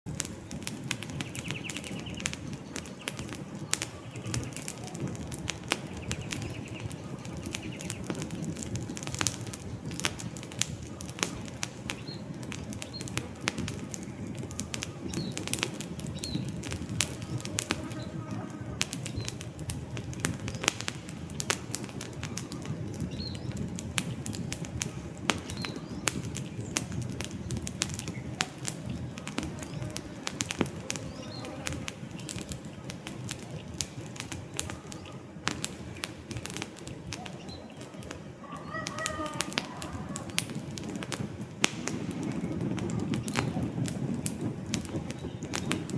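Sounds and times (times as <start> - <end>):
campfire crackling and popping: 0.0 - 45.9
low rush of flames: 0.1 - 45.9.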